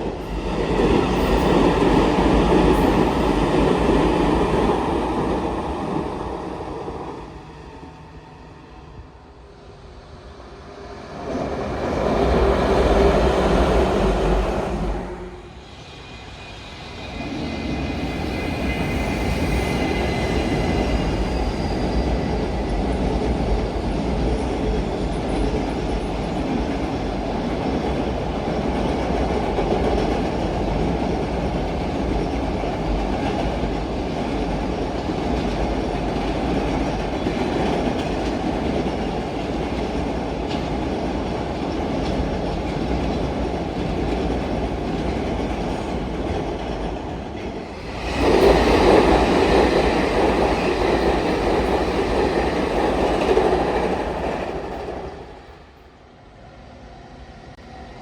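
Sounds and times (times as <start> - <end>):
train wheels rumbling and clacking: 0.0 - 7.7, 10.8 - 55.8.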